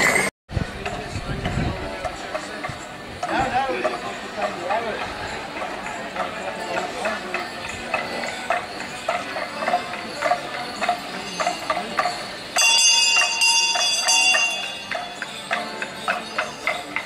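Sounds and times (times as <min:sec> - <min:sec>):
bells jingling rhythmically: 0:00.0 - 0:17.0.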